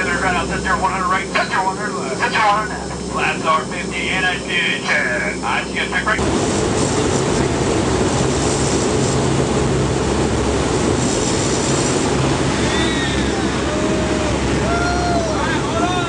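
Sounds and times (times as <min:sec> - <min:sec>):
turboprop engines roaring: 0:00.0 - 0:16.0.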